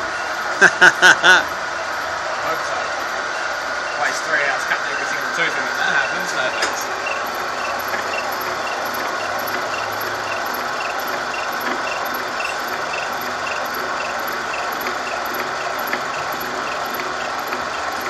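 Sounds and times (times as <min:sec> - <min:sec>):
milling machine running: 0:00.0 - 0:18.0.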